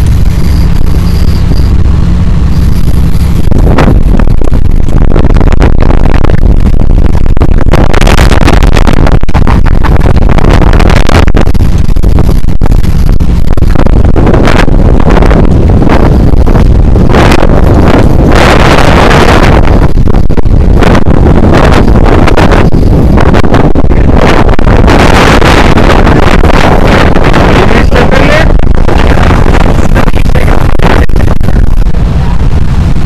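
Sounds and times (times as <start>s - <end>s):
boat engine rumble: 0.0s - 33.0s
gusty wind buffeting microphone: 0.0s - 33.0s.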